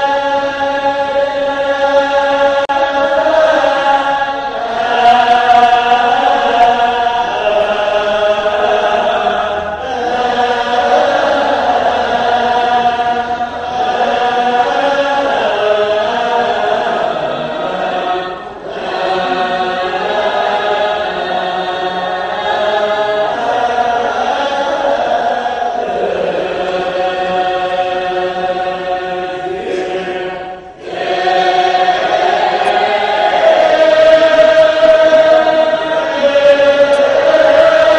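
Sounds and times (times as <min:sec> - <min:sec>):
choir chanting a hymn in unison: 0:00.0 - 0:37.9.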